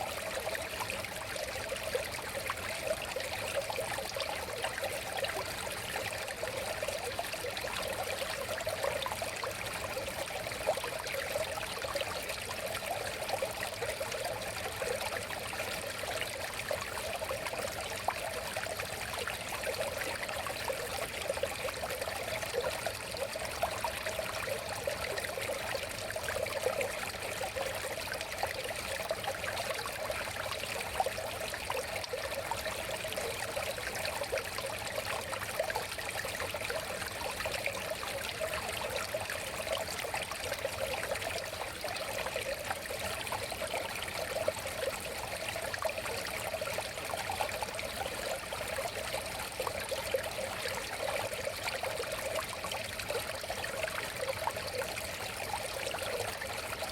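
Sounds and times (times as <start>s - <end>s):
stream babbling: 0.0s - 56.9s.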